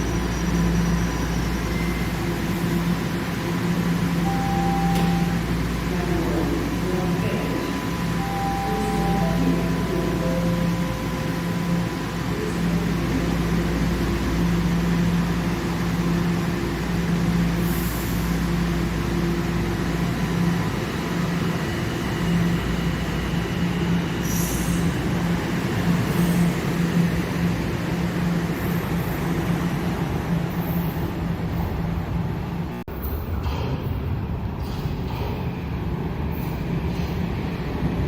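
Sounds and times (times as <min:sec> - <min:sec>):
subway train running: 0:00.0 - 0:38.0.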